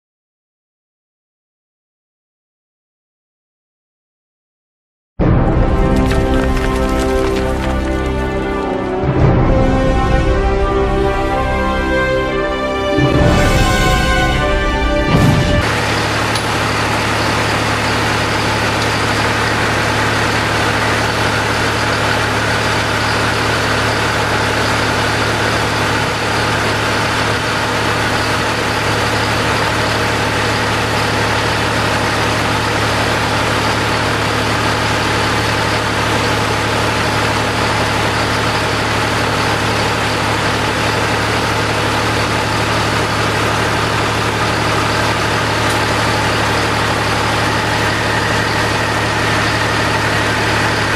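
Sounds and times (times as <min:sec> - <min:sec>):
tractor engine running steadily: 0:05.5 - 0:50.9.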